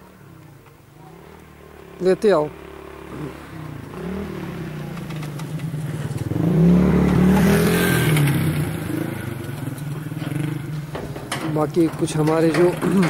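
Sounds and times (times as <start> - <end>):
vehicle engine passing: 0.1 - 13.0.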